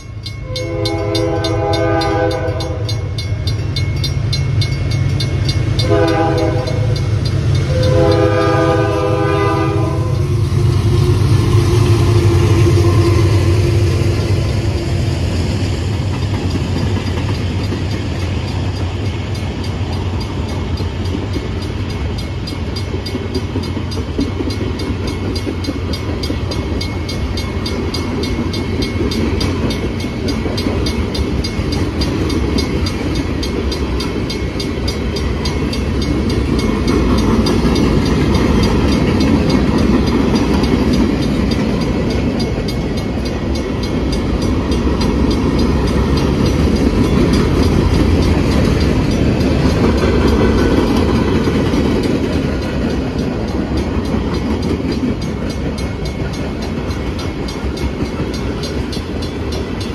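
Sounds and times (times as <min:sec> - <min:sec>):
freight train cars rolling past: 0:00.0 - 0:59.9
steel wheels rumbling on rail: 0:00.0 - 0:59.9.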